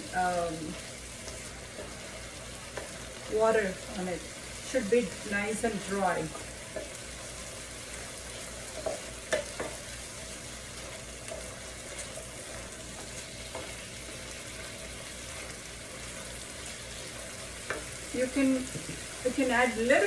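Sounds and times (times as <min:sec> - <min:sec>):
chicken and vegetables sizzling: 0:00.0 - 0:20.0.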